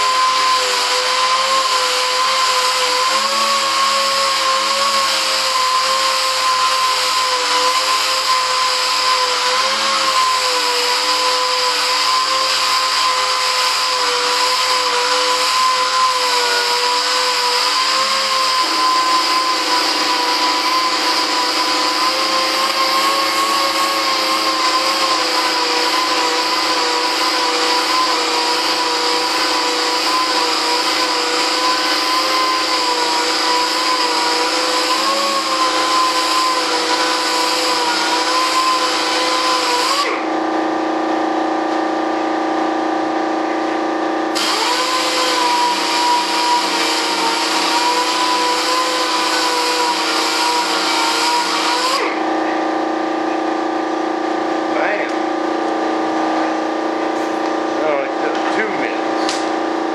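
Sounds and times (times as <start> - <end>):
air sander whining: 0.0 - 59.9.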